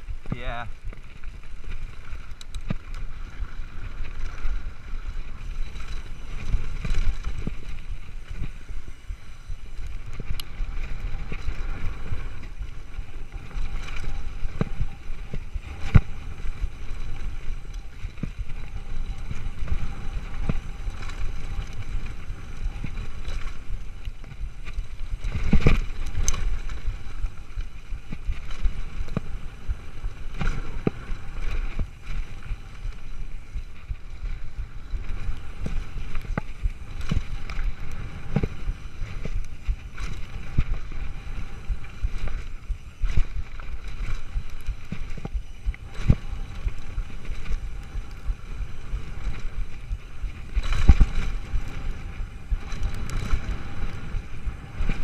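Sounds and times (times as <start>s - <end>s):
bike tyre rumble and rattle: 0.0s - 55.0s
wind on microphone: 0.0s - 55.0s.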